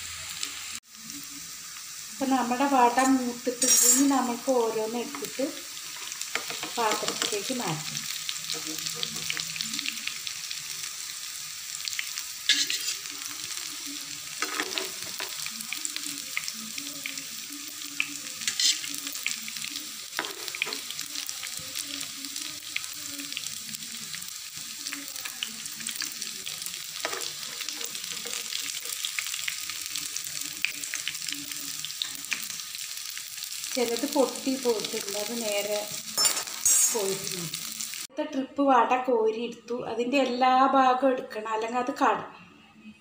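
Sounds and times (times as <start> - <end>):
food sizzling in oil: 0.0 - 38.1.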